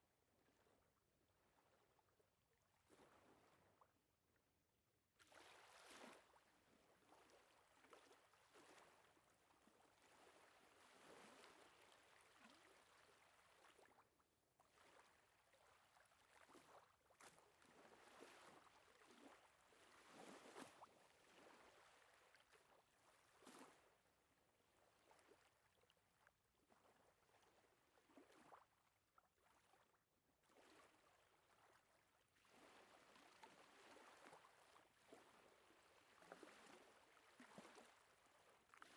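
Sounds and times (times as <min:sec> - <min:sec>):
water-like swishing and lapping: 0:00.3 - 0:04.5, 0:05.1 - 0:38.9.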